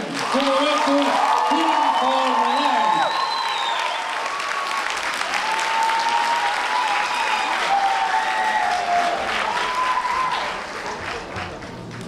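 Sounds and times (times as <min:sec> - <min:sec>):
audience applauding: 0:00.0 - 0:12.0
long held cheers: 0:00.2 - 0:10.8.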